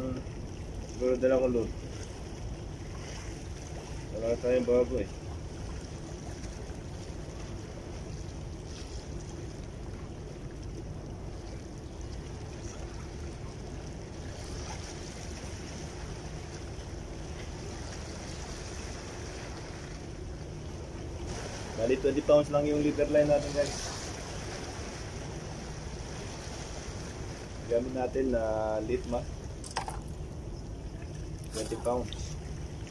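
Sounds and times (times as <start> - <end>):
faint steady hum: 0.0 - 32.9
sea noise: 0.0 - 32.9.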